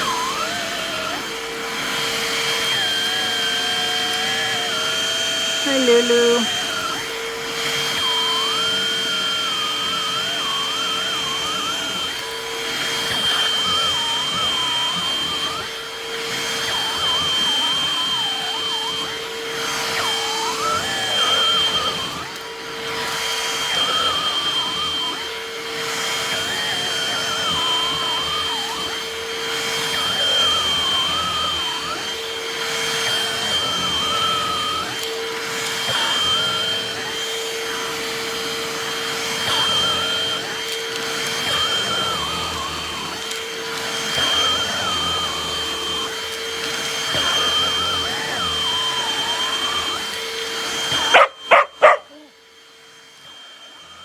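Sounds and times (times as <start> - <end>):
hand vacuum running: 0.0 - 54.0.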